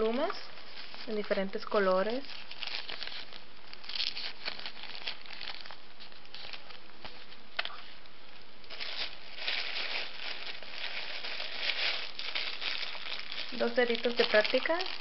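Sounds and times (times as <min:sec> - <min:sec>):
plastic bag crinkling: 0:00.0 - 0:08.0, 0:08.6 - 0:15.0.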